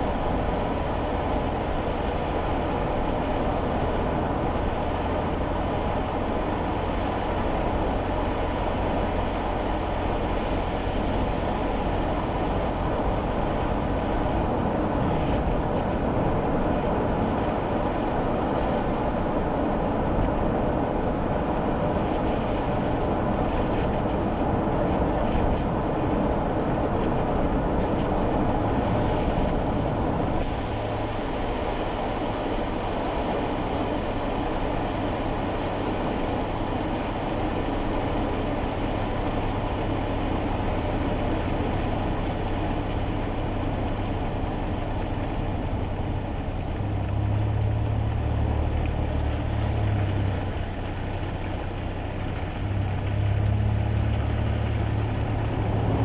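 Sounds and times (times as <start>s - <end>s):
low engine hum: 0.0s - 56.0s
tyre and road noise: 0.0s - 56.0s.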